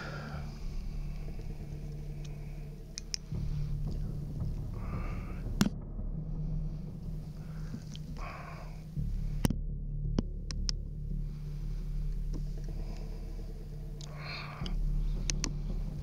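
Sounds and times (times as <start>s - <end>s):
rustling breathy bursts: 0.0s - 9.4s, 11.0s - 16.0s
steady low hum: 0.0s - 16.0s.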